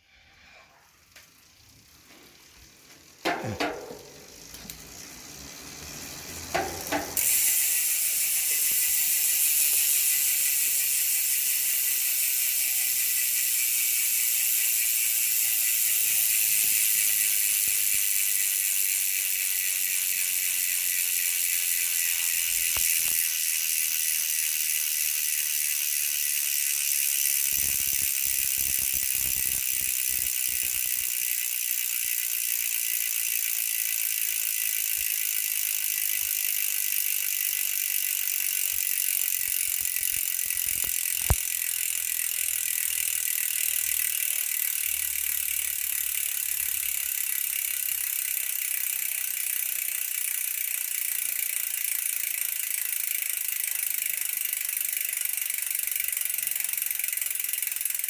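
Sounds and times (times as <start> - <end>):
ratchet mechanism clicking: 1.0 - 58.0.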